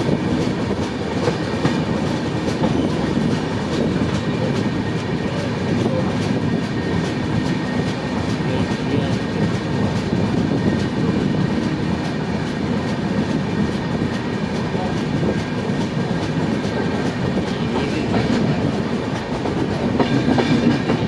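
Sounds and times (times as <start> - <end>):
train wheels rumbling on rails: 0.0 - 21.0
wheels clicking over rail joints: 0.0 - 21.0.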